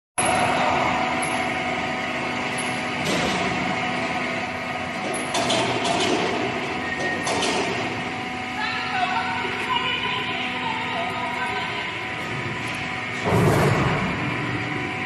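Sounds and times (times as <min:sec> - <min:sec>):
industrial machinery hum: 0:00.2 - 0:15.0.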